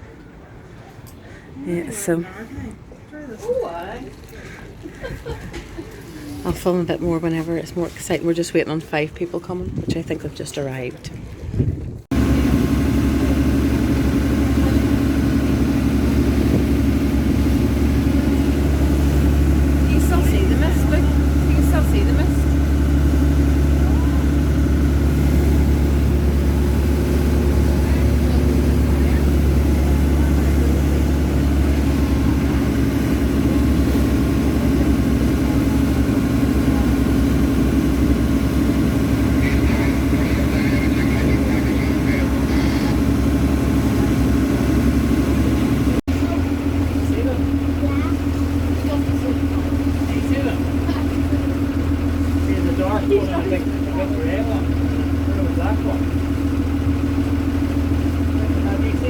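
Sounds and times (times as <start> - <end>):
boat engine droning: 4.0 - 59.0.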